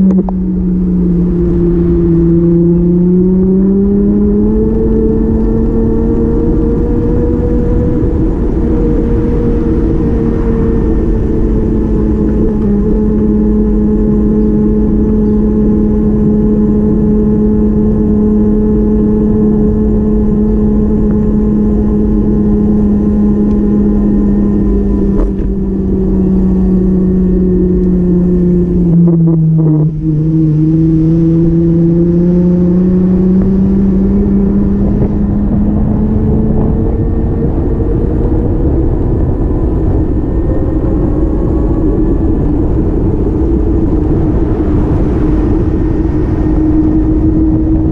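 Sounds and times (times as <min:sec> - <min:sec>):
low rumble: 0:00.0 - 0:47.9
motor vehicle droning: 0:00.0 - 0:47.9.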